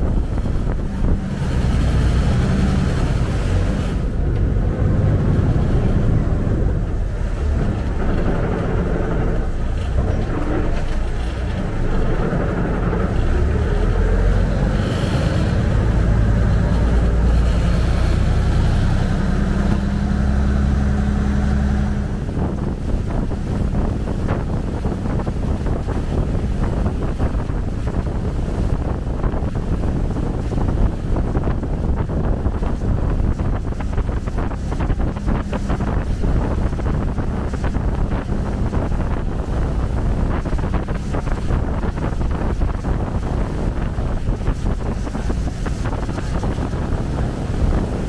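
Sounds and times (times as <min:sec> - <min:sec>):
boat engine running: 0:00.0 - 0:48.0
rushing splashing water: 0:00.0 - 0:48.0
wind buffeting microphone: 0:00.0 - 0:48.0.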